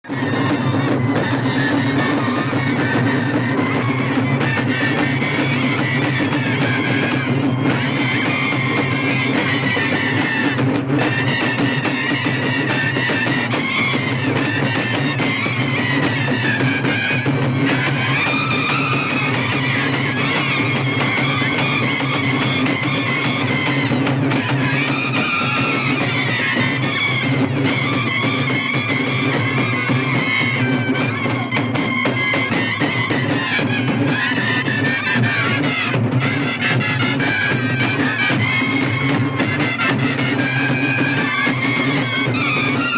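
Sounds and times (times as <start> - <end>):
frame drums beaten fast: 0.0 - 42.9
wind instrument melody: 0.0 - 42.9.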